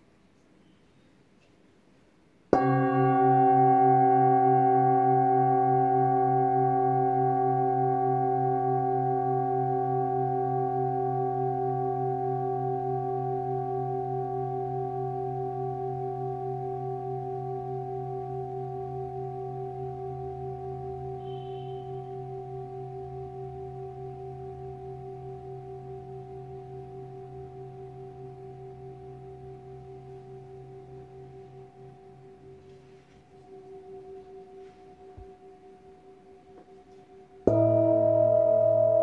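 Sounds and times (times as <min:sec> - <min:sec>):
singing bowl ringing: 0:02.5 - 0:39.0.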